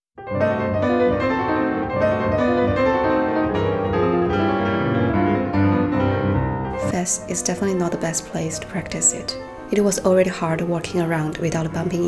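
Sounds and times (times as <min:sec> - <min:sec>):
piano music: 0:00.2 - 0:12.0.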